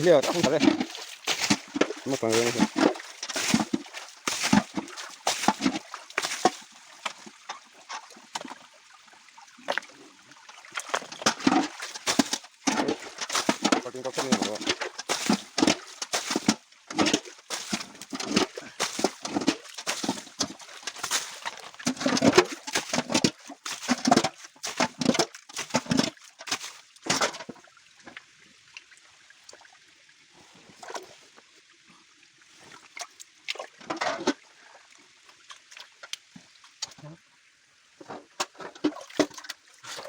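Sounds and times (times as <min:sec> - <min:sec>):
stream water splashing: 0:00.0 - 0:40.0
water trickling: 0:00.0 - 0:40.0.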